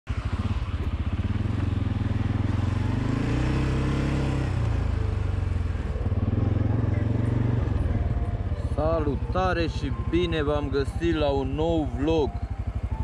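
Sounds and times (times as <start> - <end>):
atv engine running: 0.1 - 13.0.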